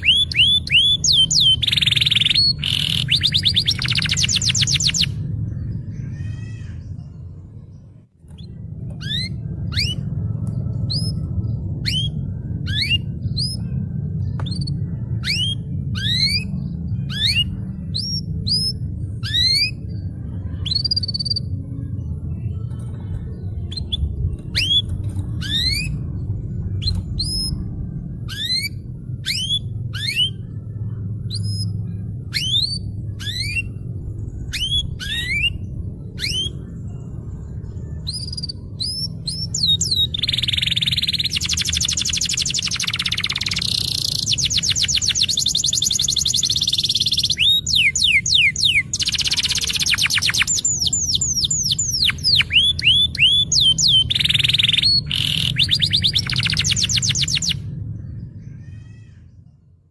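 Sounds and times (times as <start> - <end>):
canary singing: 0.0 - 59.1
steady low hum: 0.0 - 59.9.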